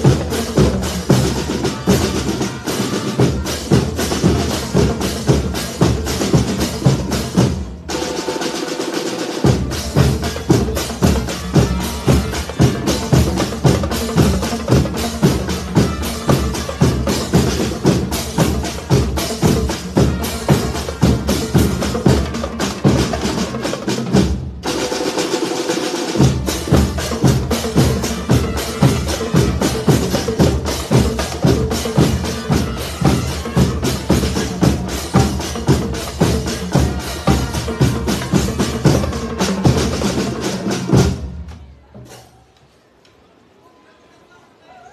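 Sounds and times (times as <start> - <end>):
brass playing: 0.0 - 8.6, 9.2 - 24.1, 26.1 - 41.2
marching drums beat: 0.0 - 41.4.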